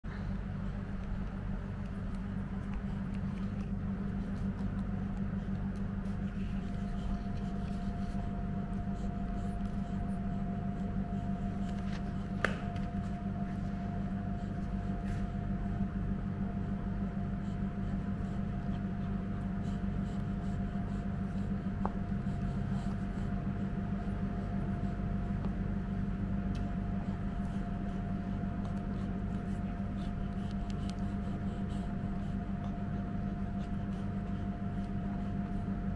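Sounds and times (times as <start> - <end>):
faint steady whine: 0.0 - 35.9
low hum: 0.0 - 35.9.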